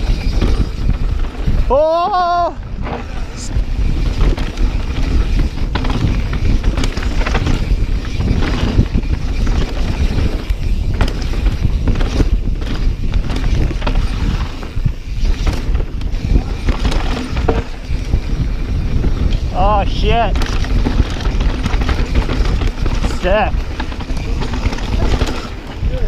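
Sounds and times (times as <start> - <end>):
bike clattering and rattling: 0.0 - 26.0
tyres rumbling on dirt: 0.0 - 26.0
wind buffeting microphone: 0.0 - 26.0.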